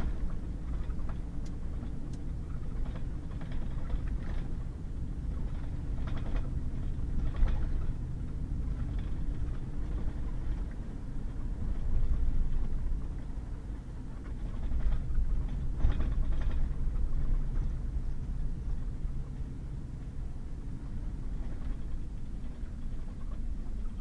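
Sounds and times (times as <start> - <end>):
truck engine and tyres rumbling: 0.0 - 24.0.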